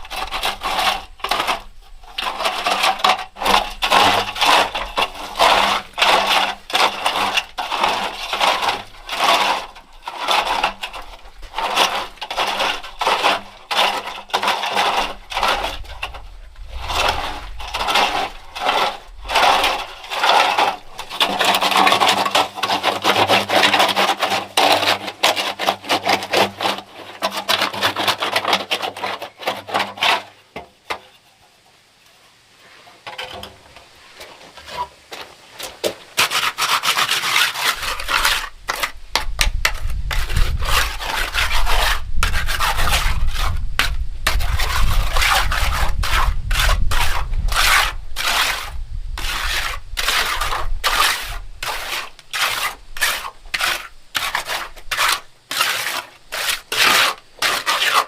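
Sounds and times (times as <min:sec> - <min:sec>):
rough scraping strokes: 0:00.0 - 0:31.2, 0:32.6 - 0:58.0.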